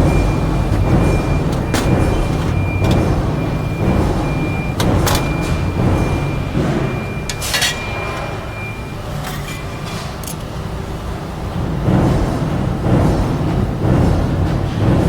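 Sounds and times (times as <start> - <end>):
press brake machine humming: 0.0 - 15.0.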